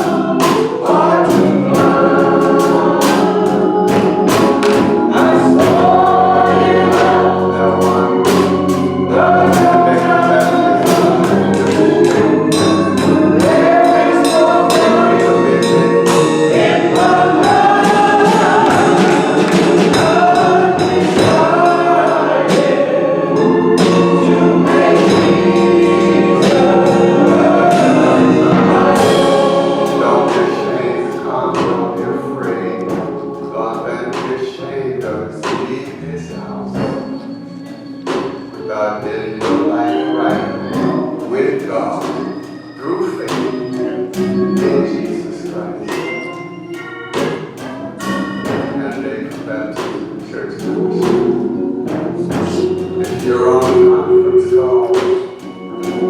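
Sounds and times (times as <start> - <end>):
choir singing gospel song: 0.0 - 56.0
instrumental accompaniment: 0.0 - 56.0.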